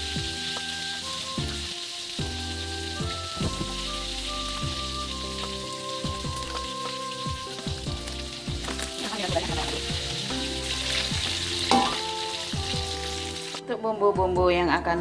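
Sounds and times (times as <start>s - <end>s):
fish sizzling in hot oil: 0.0s - 13.6s.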